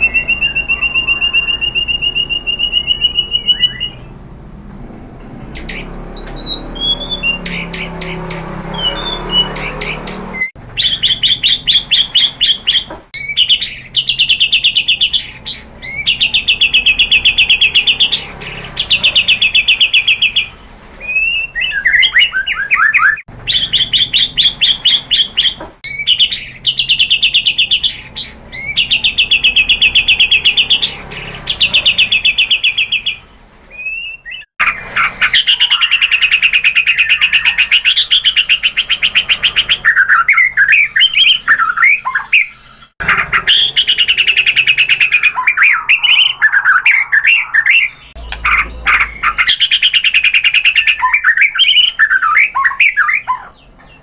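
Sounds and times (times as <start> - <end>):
songbird rattling and whistling: 5.4 - 54.0.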